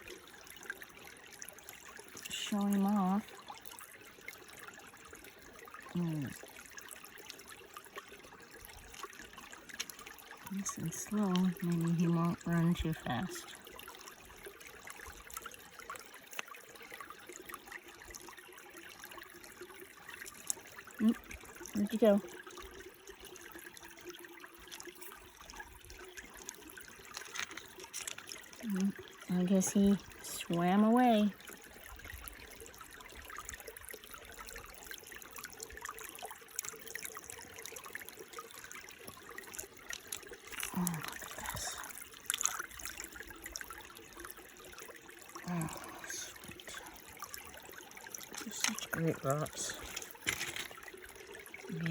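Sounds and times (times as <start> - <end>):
stream trickling over rocks: 0.0 - 51.9.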